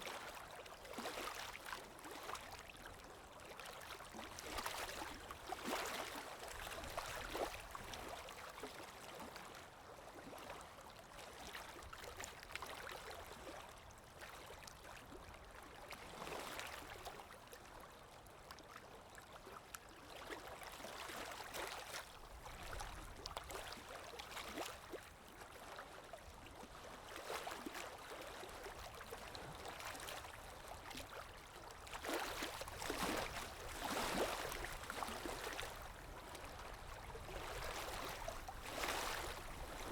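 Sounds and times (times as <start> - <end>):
water lapping and splashing: 0.0 - 9.6, 10.2 - 17.3, 18.4 - 39.9.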